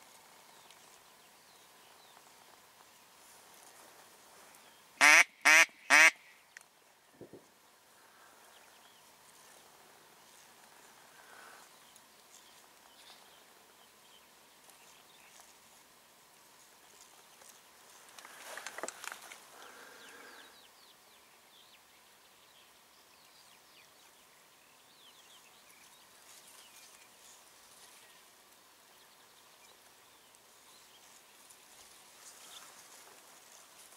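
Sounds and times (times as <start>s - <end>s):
crackling rustle: 0.0s - 5.0s, 6.4s - 20.5s, 25.4s - 33.9s.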